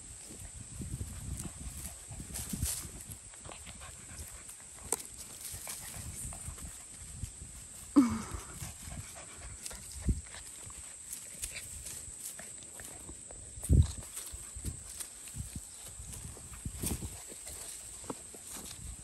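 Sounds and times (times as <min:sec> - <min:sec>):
puppies rustling in leaves: 0:00.0 - 0:19.0.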